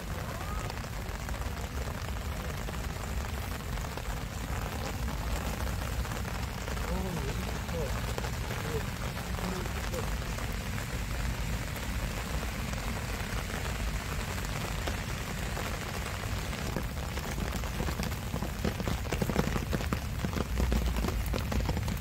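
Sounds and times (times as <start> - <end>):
rain pattering on leaves: 0.0 - 22.0.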